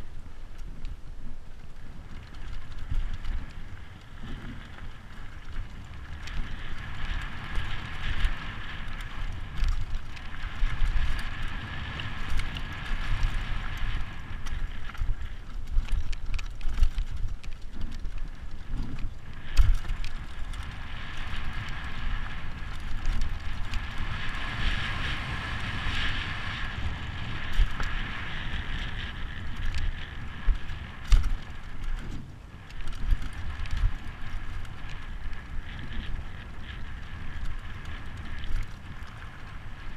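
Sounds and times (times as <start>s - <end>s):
bike rattling: 0.0s - 39.9s
wind buffeting microphone: 0.0s - 39.9s.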